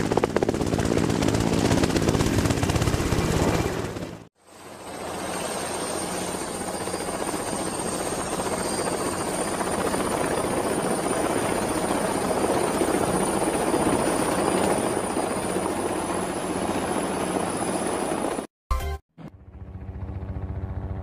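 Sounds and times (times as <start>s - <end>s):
helicopter rotor and engine: 0.0s - 18.5s, 19.2s - 21.0s.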